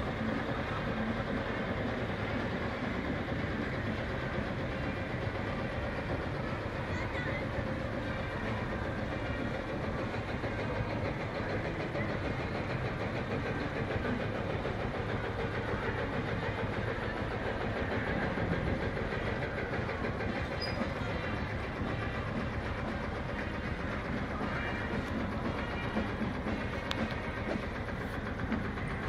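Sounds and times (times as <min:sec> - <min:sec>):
tractor engine running: 0:00.0 - 0:29.0
trailer rolling over cobblestones: 0:00.0 - 0:29.0.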